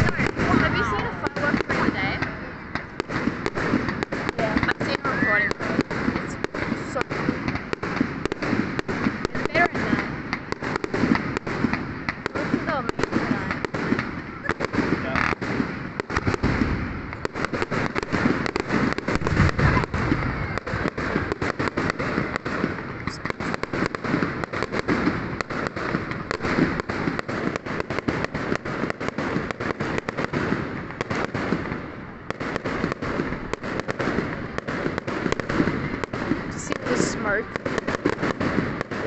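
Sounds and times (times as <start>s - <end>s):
fireworks bangs and crackling pops: 0.0s - 39.0s.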